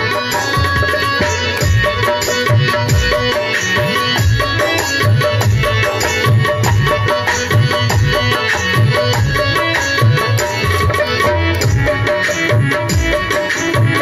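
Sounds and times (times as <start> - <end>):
electronic keyboard melody: 0.0 - 14.0
steady drum beat: 0.0 - 14.0.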